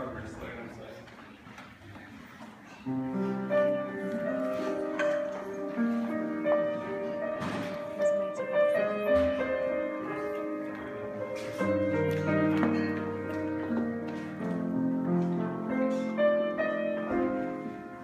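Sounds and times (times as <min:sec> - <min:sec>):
instrumental music: 0:02.9 - 0:18.0.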